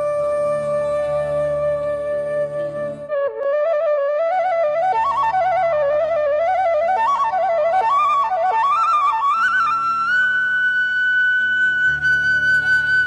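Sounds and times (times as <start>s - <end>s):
flute-like melody: 0.0s - 13.0s.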